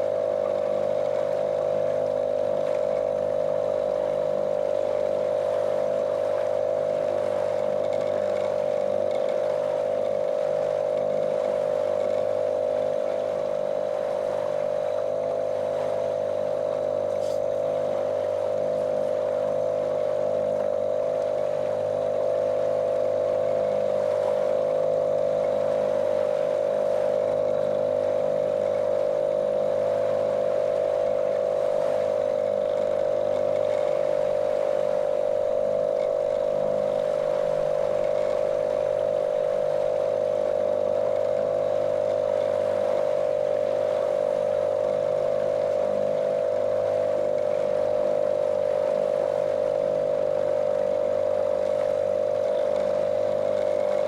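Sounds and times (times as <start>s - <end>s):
motorboat motor droning: 0.0s - 54.0s.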